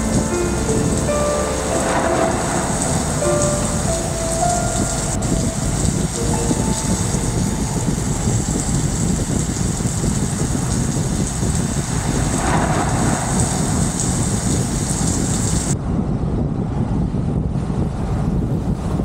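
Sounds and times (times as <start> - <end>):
rain hissing: 0.0 - 15.8
low rumble: 0.0 - 19.0.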